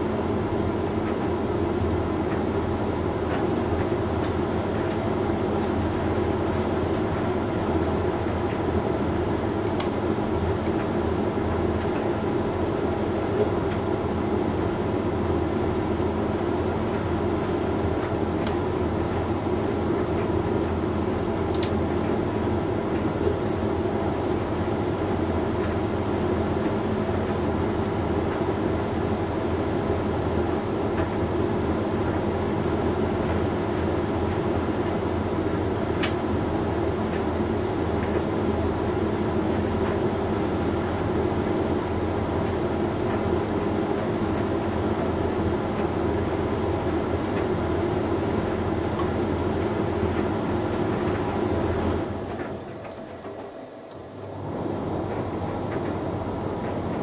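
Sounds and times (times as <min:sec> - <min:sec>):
dryer drum and motor humming: 0:00.0 - 0:57.0.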